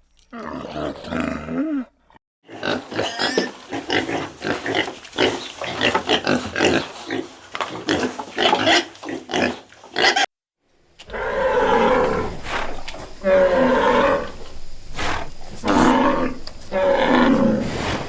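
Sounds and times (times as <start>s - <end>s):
pigs grunting: 0.3s - 10.3s, 11.0s - 18.0s.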